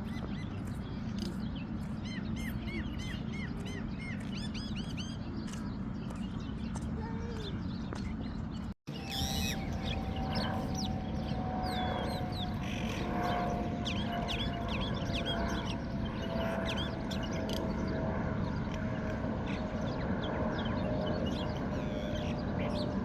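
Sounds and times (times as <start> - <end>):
low background hum: 0.0 - 23.0
small birds chirping: 0.0 - 23.0.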